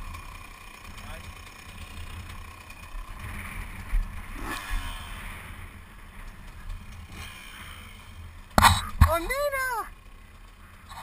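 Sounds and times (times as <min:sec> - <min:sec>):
motocross bike engines rumbling: 0:00.0 - 0:11.0.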